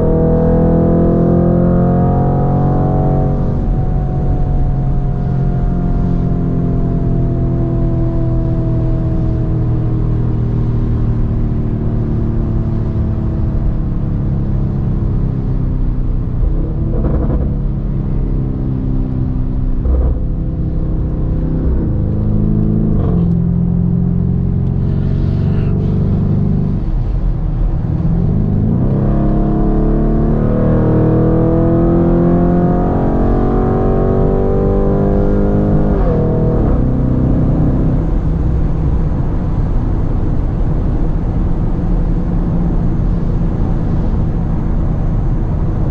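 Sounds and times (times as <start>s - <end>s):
car engine revving: 0.0s - 10.0s, 11.3s - 45.9s.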